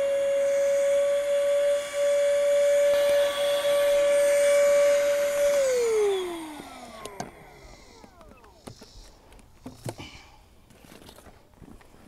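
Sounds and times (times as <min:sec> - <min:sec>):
electric air pump whining: 0:00.0 - 0:10.1.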